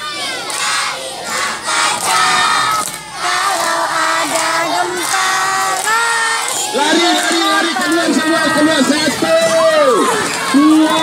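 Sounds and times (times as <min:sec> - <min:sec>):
children singing in unison: 0:00.0 - 0:09.1.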